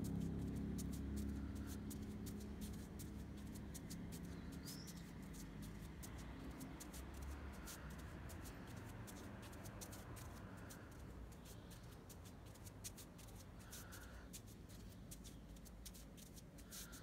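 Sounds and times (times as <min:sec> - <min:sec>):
low steady rumble: 0:00.0 - 0:16.7.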